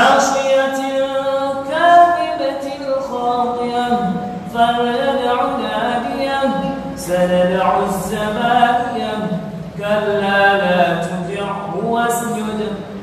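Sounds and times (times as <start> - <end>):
man chanting a recitation: 0.0 - 13.0.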